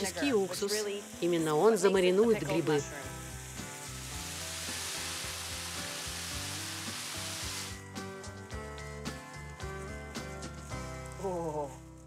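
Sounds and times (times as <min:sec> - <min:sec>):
mushrooms sizzling in frying pan: 0:00.0 - 0:12.0.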